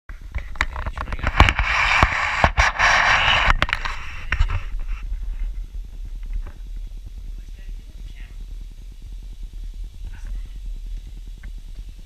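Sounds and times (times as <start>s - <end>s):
hissing rustles: 0.2s - 12.0s.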